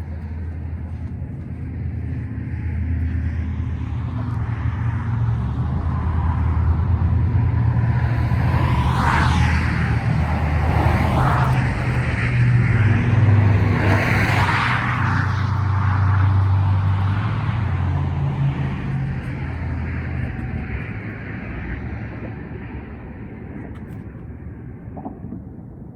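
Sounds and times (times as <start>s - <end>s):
motor vehicle rumble: 0.0s - 25.9s
rushing noise: 1.6s - 23.6s.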